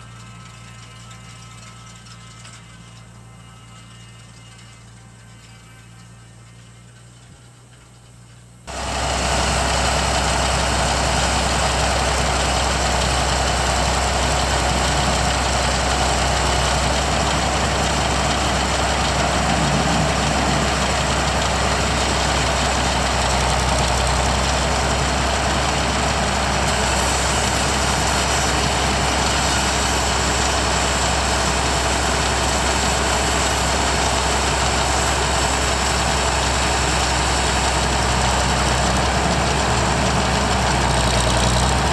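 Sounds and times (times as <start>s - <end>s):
tractor engine running under load: 0.0s - 41.9s.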